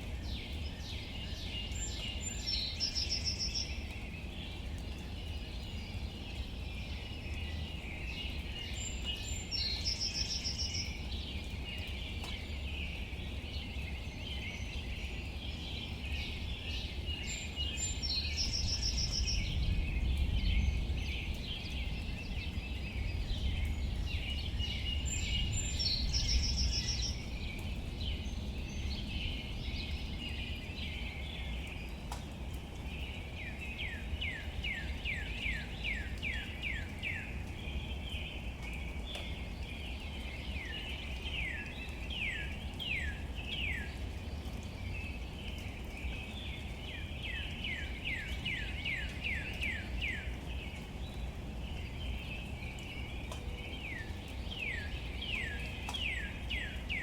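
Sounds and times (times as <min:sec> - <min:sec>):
dense background bird chorus: 0:00.0 - 0:57.0.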